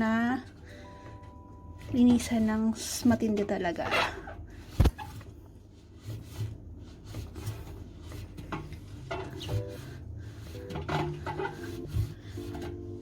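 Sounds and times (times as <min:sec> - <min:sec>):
cloth wiping washing machine: 0:00.0 - 0:13.0.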